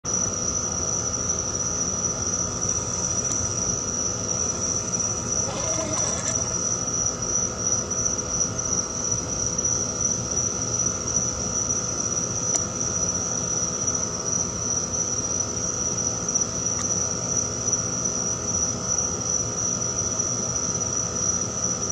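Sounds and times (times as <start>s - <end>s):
crickets chirring: 0.1s - 21.9s.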